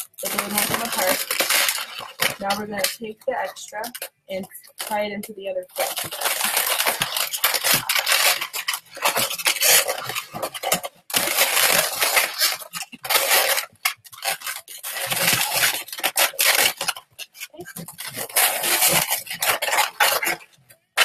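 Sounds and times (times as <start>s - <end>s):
balloons rubbing together: 0.0s - 3.4s, 5.7s - 20.6s.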